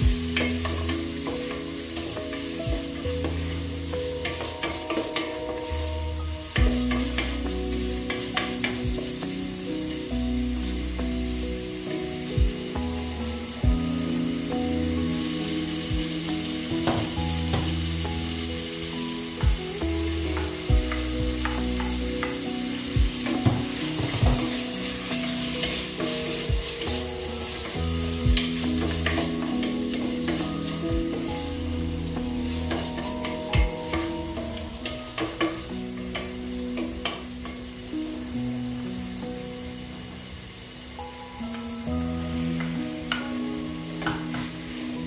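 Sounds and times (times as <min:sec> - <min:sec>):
meat and onion sizzling: 0:00.0 - 0:45.0.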